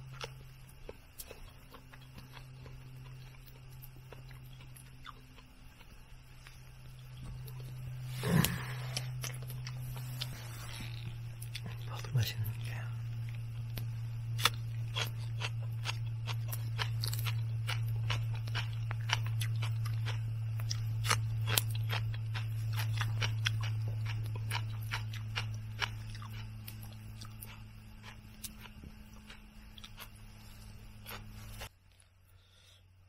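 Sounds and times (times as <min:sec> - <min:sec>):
crunching and chewing green onion: 0:00.0 - 0:32.8
steady low hum: 0:00.0 - 0:33.0.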